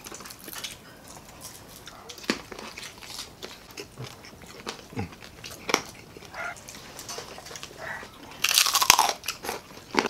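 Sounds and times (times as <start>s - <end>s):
crunch of fried batter: 0.0s - 10.0s
wet chewing: 0.0s - 10.0s.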